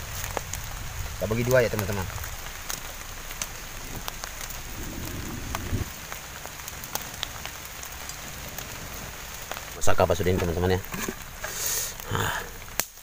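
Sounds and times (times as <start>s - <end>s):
fire popping: 0.0s - 13.0s
steady hiss: 0.0s - 13.0s
wood fire crackling: 0.0s - 13.0s.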